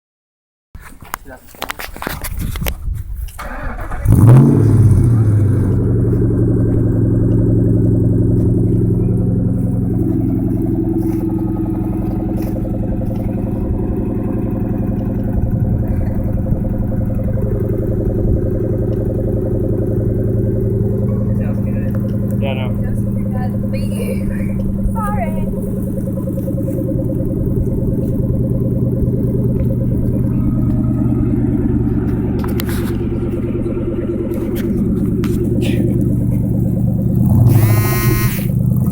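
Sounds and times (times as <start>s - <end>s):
car engine starting and idling: 1.0s - 38.9s.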